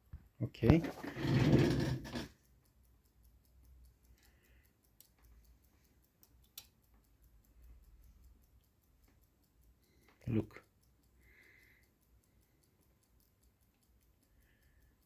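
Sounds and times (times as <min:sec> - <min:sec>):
light clicks: 0:02.2 - 0:15.0.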